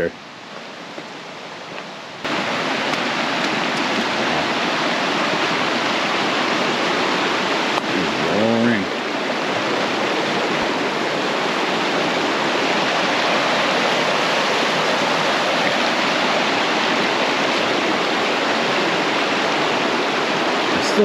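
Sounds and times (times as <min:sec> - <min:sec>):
creek rushing over rocks: 0:00.1 - 0:21.0.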